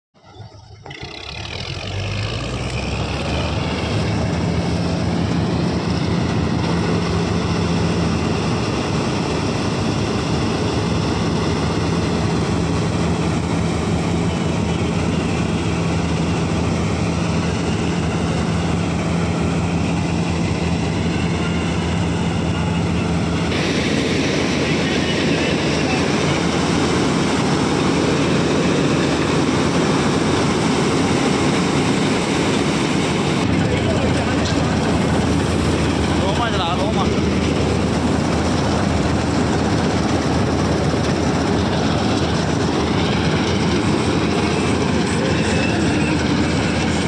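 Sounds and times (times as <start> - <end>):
combine harvester engine drone: 0.2 - 47.0.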